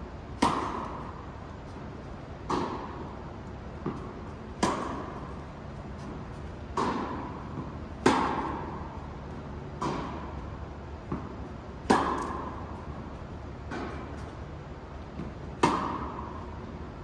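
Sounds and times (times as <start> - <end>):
tennis ball hit by rackets: 0.4 - 1.8, 2.4 - 3.2, 3.8 - 14.4, 15.1 - 16.6.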